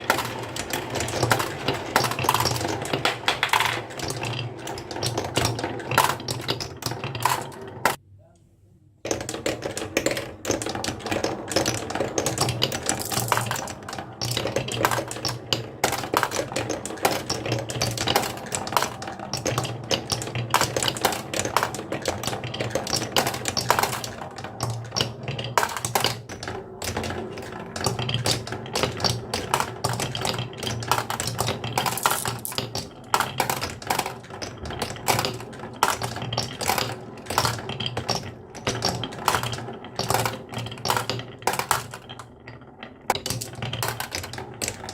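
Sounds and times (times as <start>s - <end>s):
marbles clacking on wooden run: 0.0s - 8.0s, 9.1s - 44.9s.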